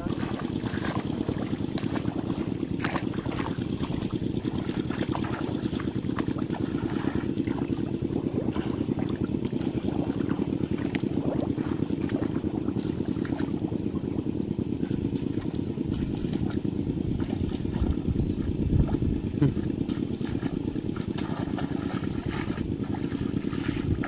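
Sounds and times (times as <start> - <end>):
splashes wading through water: 0.0 - 24.0
steady low rumble: 0.0 - 24.0.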